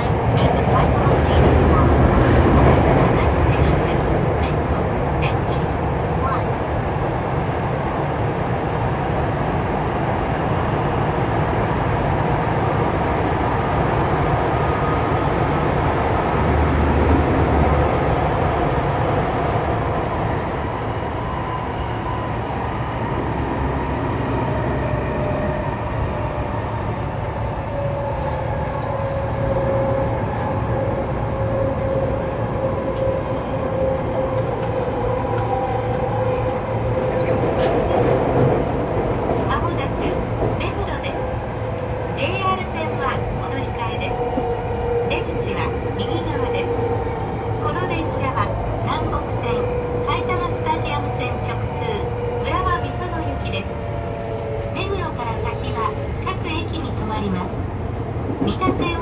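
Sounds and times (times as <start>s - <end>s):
train wheels and motors rumbling: 11.3s - 59.0s.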